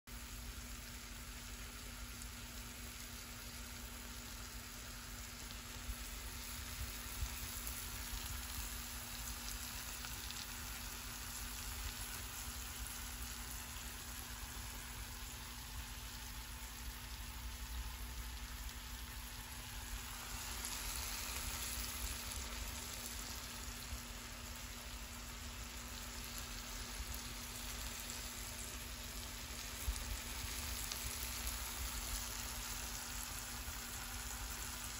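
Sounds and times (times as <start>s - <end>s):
ground meat sizzling in oil: 0.0s - 34.9s.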